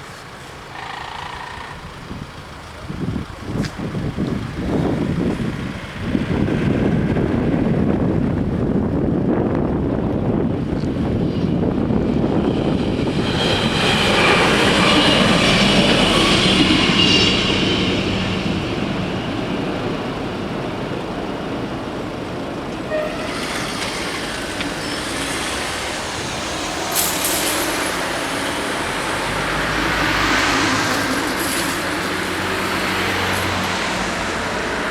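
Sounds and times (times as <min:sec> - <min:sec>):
diesel railcar passing: 0:00.0 - 0:34.9.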